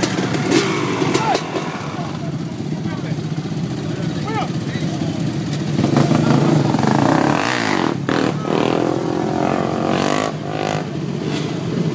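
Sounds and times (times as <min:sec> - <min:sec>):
atv and dirt bike engines revving: 0:00.0 - 0:11.9.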